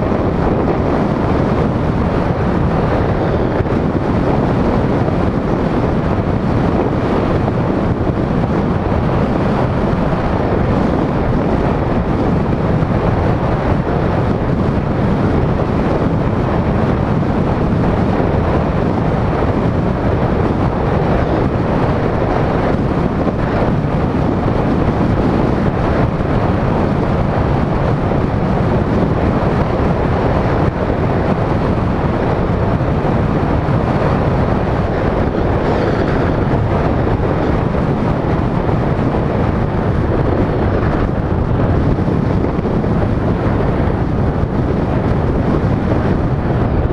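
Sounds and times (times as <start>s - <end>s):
tyre and road noise: 0.0s - 46.9s
wind on microphone: 0.0s - 46.9s.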